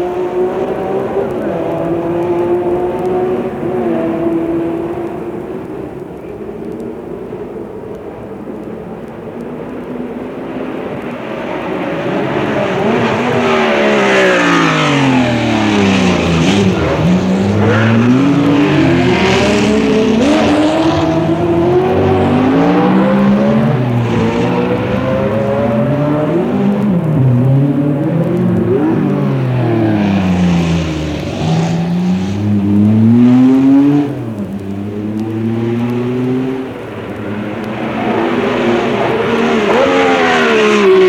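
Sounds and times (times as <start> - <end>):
racing engines shifting gears: 0.0 - 7.5, 9.0 - 41.0.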